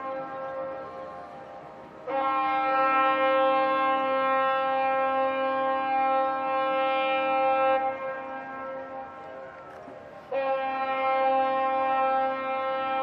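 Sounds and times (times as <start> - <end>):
ship's horn blast: 0.0 - 13.0.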